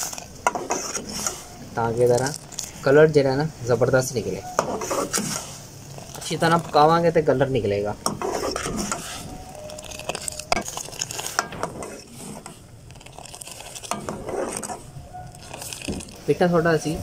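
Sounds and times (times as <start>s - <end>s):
ladle scraping a metal pot: 0.0s - 2.9s, 4.2s - 17.0s
tea bubbling at a boil: 0.0s - 17.0s.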